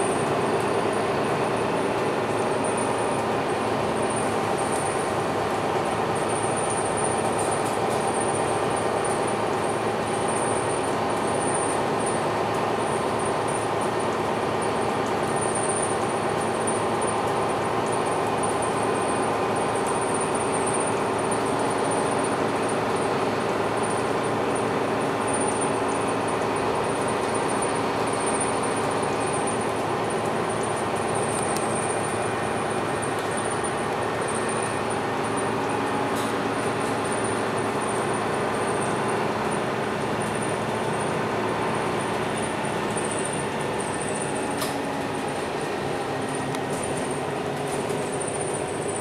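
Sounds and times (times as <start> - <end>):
bus diesel engine humming: 0.0 - 49.0.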